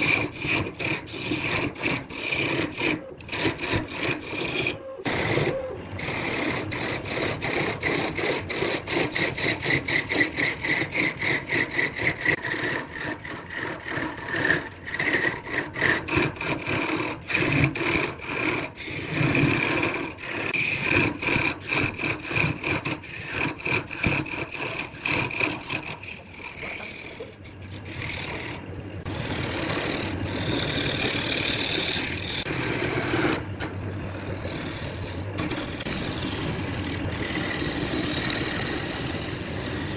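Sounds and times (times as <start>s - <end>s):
turning tool scraping wood: 0.0s - 39.9s
wood lathe whining: 0.0s - 39.9s.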